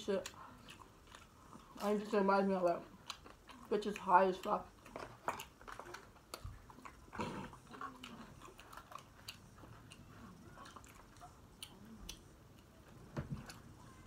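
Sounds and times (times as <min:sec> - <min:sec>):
chewing crunchy chips: 0:00.2 - 0:12.8.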